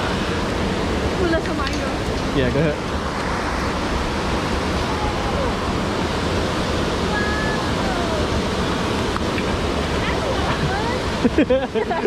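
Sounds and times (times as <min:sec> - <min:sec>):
river water over rocks: 0:00.0 - 0:12.0.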